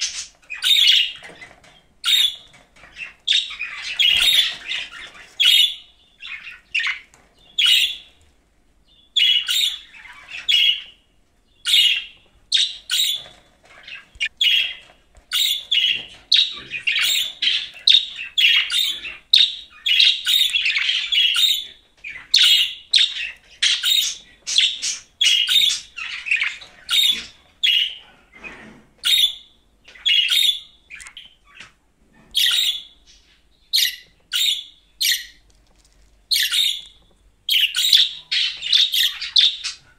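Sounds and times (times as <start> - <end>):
budgerigar chirping and squawking: 0.0 - 8.1, 9.1 - 11.0, 11.6 - 28.0, 29.0 - 31.6, 32.4 - 35.4, 36.3 - 39.9.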